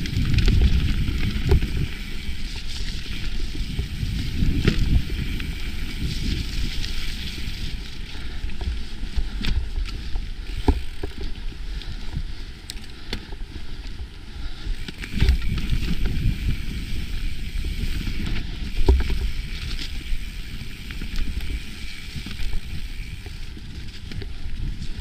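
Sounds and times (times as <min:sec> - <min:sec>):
wind buffeting microphone: 0:00.0 - 0:12.6, 0:13.4 - 0:25.0
bike clacking and rattling: 0:00.0 - 0:25.0
bike tyres rumbling on dirt: 0:00.0 - 0:25.0.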